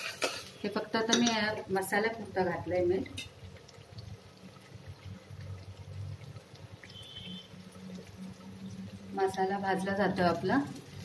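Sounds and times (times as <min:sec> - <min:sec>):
paste frying and spluttering in oil: 0:00.0 - 0:11.0.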